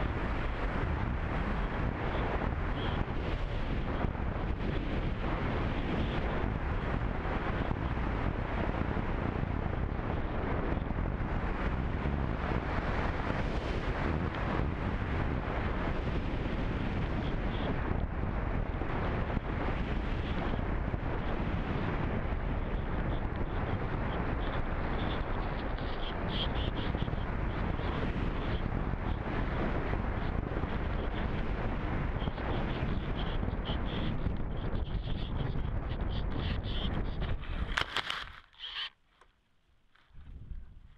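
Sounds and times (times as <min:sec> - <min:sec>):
wind rushing over microphone: 0:00.0 - 0:39.0, 0:40.0 - 0:40.9.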